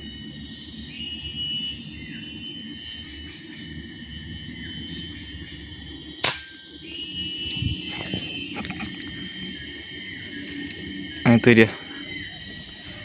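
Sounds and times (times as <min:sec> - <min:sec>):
insect chorus: 0:00.0 - 0:13.0
wind rustling leaves: 0:02.0 - 0:13.0.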